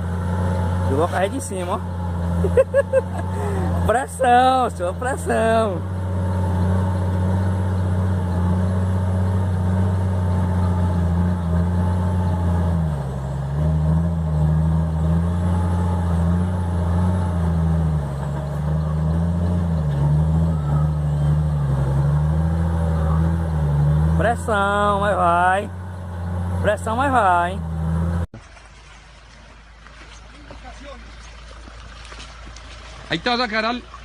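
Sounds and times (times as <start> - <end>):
engine revving under load: 0.0 - 28.3.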